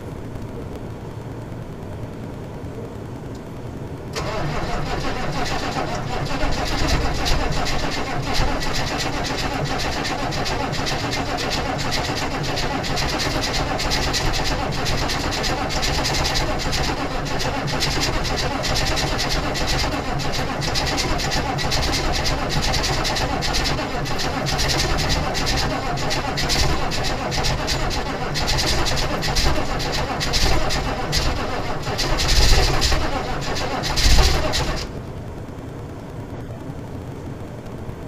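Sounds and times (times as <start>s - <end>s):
diesel engine starting and clattering: 4.1s - 35.2s.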